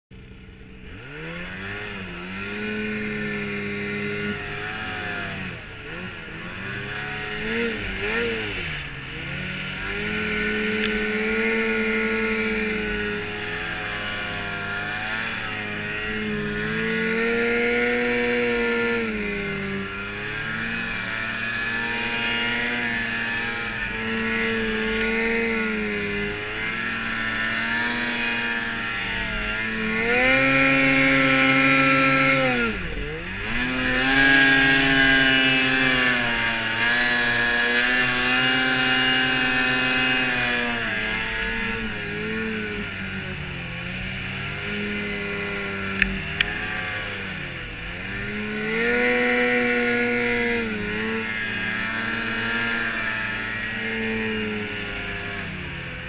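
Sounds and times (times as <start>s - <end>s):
snowmobile engine revving: 0.2s - 56.0s.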